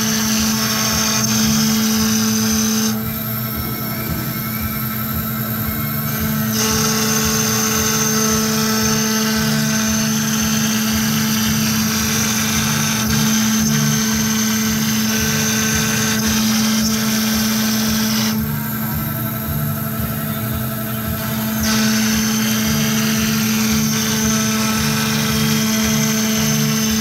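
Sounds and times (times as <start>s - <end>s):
bit cutting fibreboard: 0.0s - 27.0s
router spindle whining: 0.0s - 27.0s.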